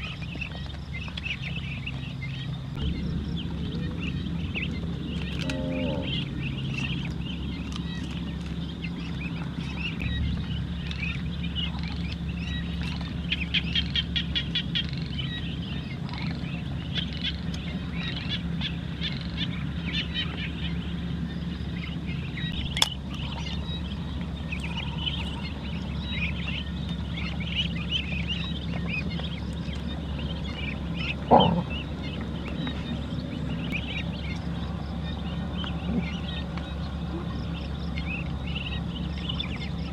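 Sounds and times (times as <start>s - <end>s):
ducklings peeping: 0.0s - 39.9s
steady low hum: 0.0s - 39.9s.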